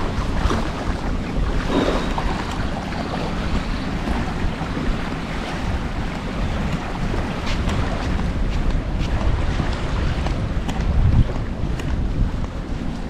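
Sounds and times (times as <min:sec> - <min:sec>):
sea water washing ashore: 0:00.0 - 0:13.0
wind on microphone: 0:00.0 - 0:13.0.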